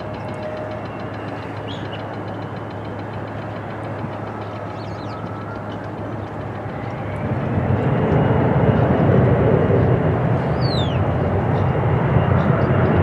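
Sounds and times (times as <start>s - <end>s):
jet airliner engines landing: 0.0s - 13.0s.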